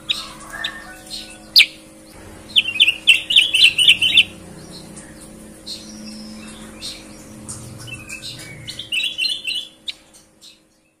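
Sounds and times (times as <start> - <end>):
birds chirping and singing: 0.0 - 11.0
low steady hum: 0.0 - 11.0.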